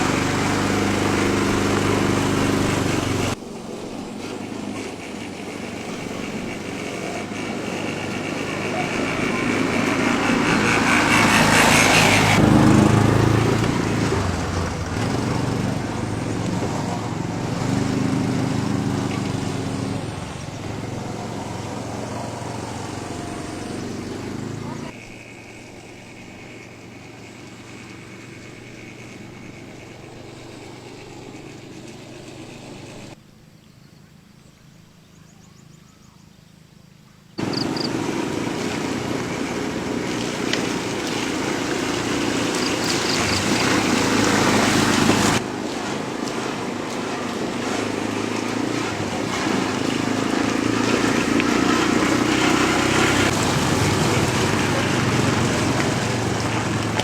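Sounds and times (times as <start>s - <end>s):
small vehicle engine running: 0.0s - 33.2s, 37.4s - 57.0s
road and outdoor noise: 0.0s - 57.0s.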